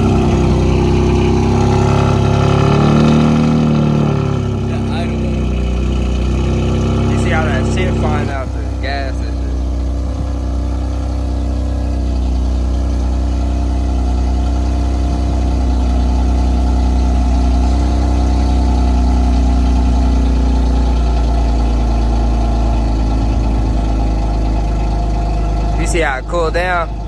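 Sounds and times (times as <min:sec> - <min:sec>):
car engine idling deep drone: 0:00.0 - 0:27.0.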